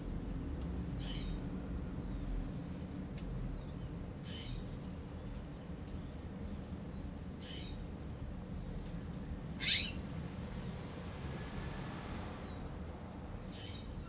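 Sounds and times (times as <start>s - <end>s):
low city hum: 0.0s - 14.0s.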